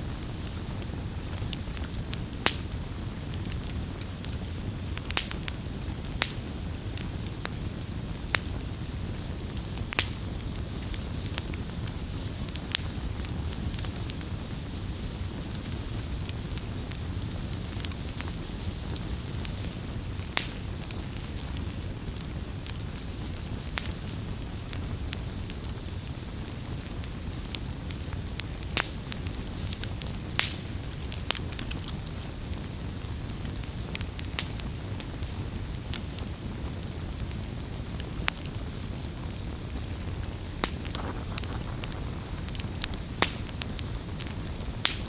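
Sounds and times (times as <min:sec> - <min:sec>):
campfire crackling and popping: 0:00.0 - 0:45.0
low rumble of burning: 0:00.0 - 0:45.0.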